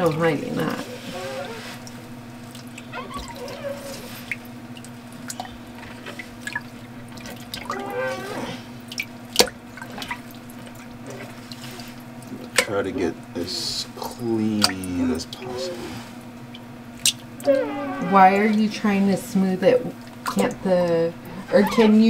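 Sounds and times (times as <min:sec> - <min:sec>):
water dripping and splashing: 0:00.0 - 0:22.0.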